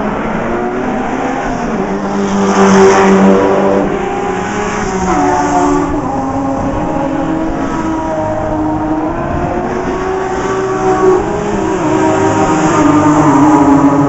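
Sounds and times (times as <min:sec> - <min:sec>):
racing cars passing at full throttle: 0:00.0 - 0:14.0.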